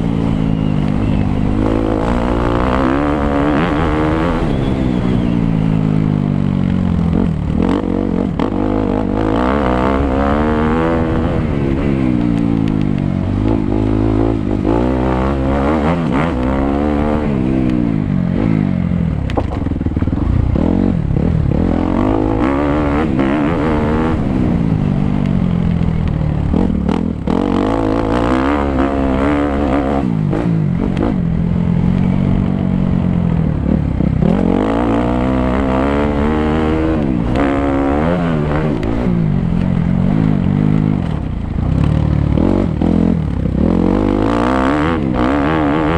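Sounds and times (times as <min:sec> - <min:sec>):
motocross bike engine revving: 0:00.0 - 0:25.2, 0:26.4 - 0:45.9.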